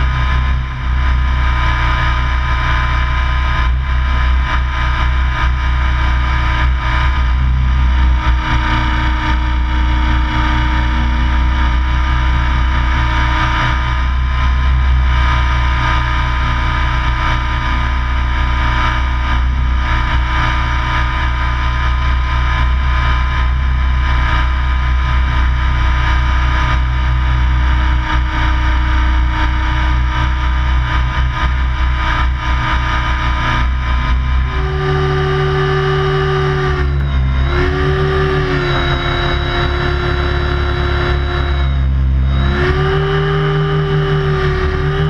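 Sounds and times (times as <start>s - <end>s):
model helicopter motor and rotor: 0.0s - 45.0s.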